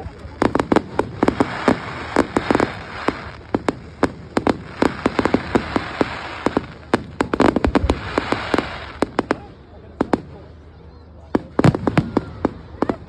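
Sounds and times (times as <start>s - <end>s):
continuous crackle: 0.0s - 10.6s
firework bangs and cracks: 0.0s - 13.0s.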